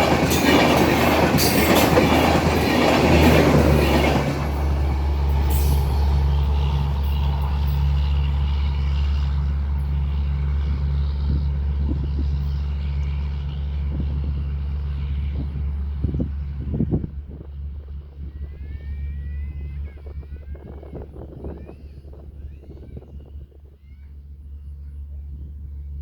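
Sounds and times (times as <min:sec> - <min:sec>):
passing train rushing: 0:00.0 - 0:23.7
low engine drone: 0:02.2 - 0:26.0.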